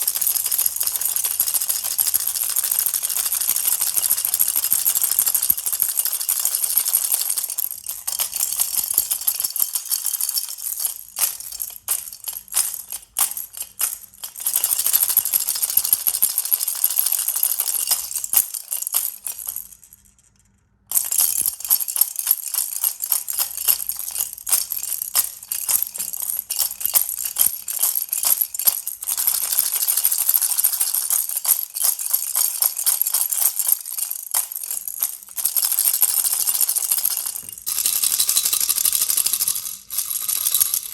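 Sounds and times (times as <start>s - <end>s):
baby rattle shaking: 0.0s - 20.1s, 20.9s - 40.9s.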